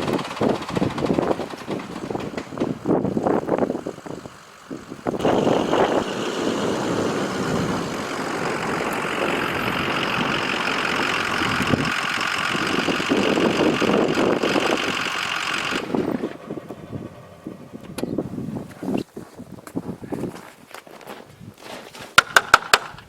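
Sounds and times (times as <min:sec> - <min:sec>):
tractor engine running: 0:00.0 - 0:18.9.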